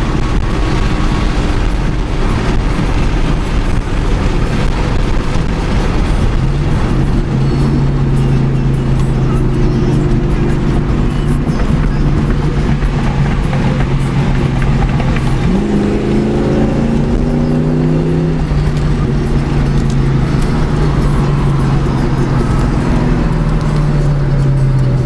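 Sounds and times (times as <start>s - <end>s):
car engine droning from inside: 0.0s - 25.0s.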